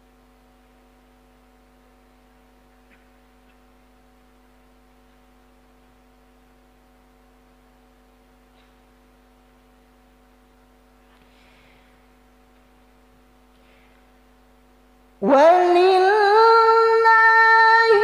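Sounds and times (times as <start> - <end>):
soft hiss: 0.0 - 15.4
faint amplifier hum: 0.0 - 18.0.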